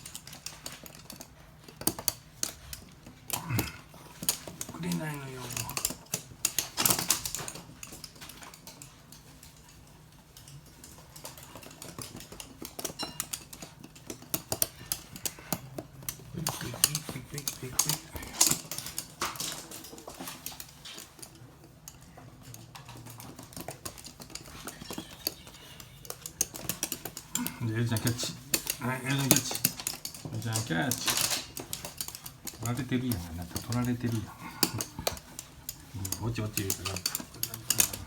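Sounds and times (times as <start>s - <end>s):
dog claws clicking on hard floor: 0.0s - 38.0s.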